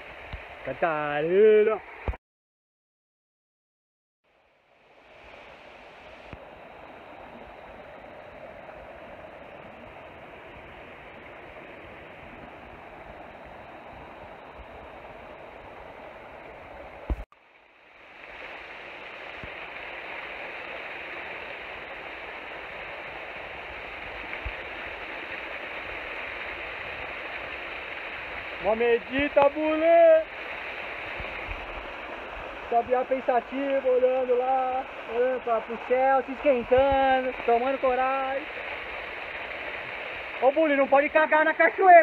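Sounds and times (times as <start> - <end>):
waterfall rushing: 5.0 - 17.2, 18.0 - 42.0.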